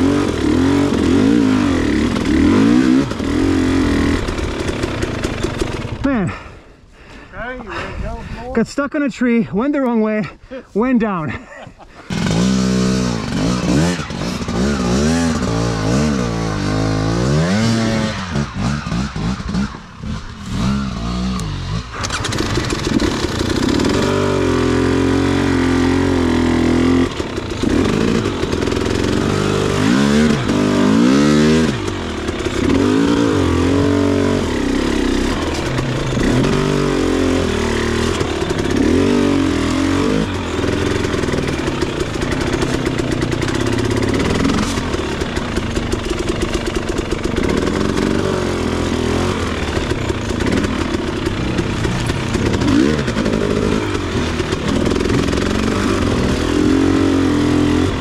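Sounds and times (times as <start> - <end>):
dirt bike engine revving: 0.0 - 6.6, 12.0 - 58.0.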